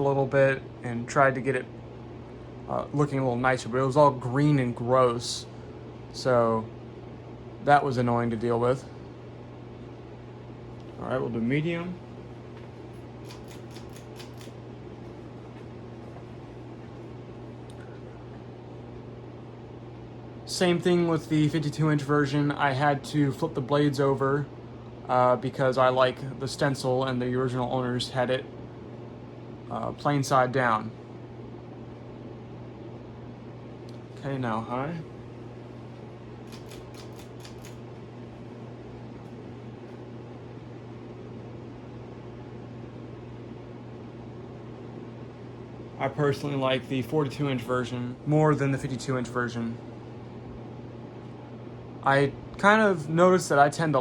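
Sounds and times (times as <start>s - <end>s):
ceiling fan running: 0.0s - 54.0s.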